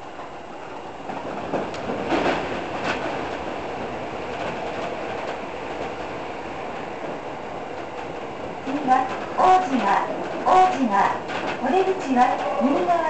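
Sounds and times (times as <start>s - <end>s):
rail joint clicks: 0.0s - 13.0s
train wheels rumbling on rail: 0.0s - 13.0s.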